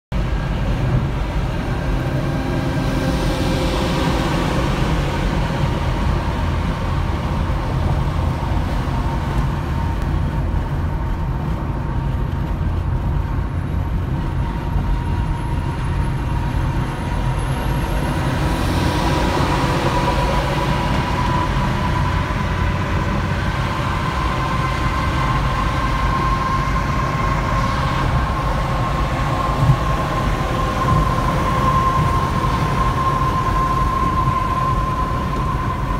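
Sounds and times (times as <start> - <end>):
road and engine rumble: 0.1 - 35.9
rushing noise: 0.2 - 35.9
steady whine: 0.2 - 35.9.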